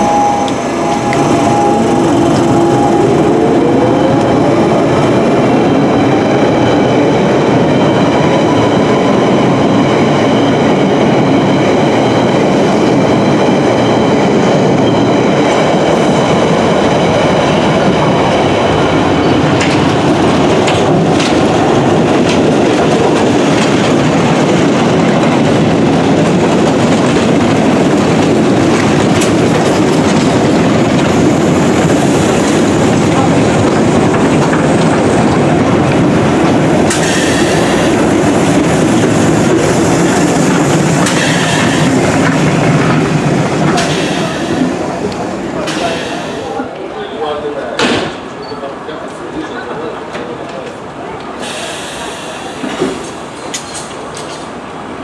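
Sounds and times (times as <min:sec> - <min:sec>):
train rolling on rails: 0:00.0 - 0:55.0.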